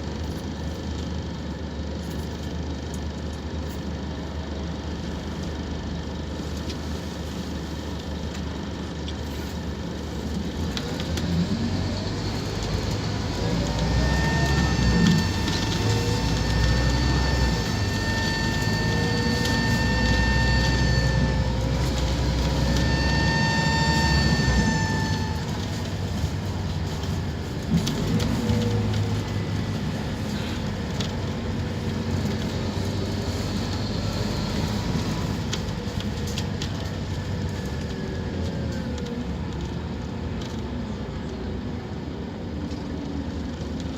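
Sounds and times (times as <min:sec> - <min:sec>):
bus diesel engine: 0:00.0 - 0:43.9.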